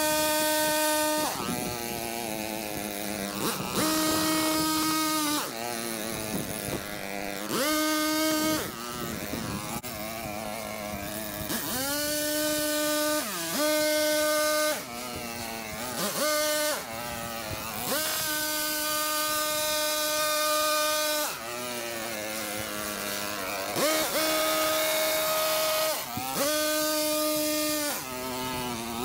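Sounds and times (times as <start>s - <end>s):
hedge trimmer engine revving: 0.0s - 29.0s.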